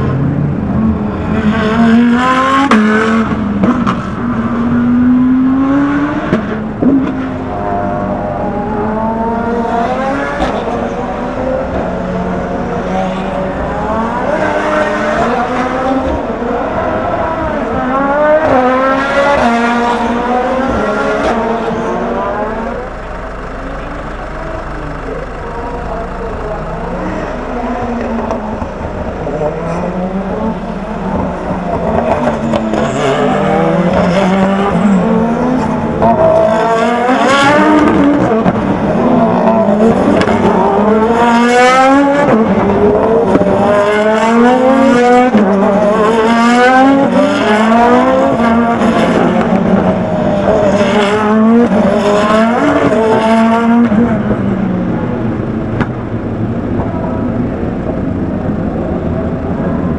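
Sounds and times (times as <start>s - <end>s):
race cars braking and accelerating: 0.0s - 59.9s.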